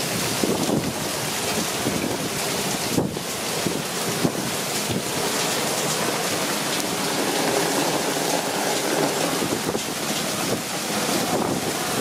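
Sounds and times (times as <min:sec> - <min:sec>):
heavy rain on leaves: 0:00.0 - 0:12.0.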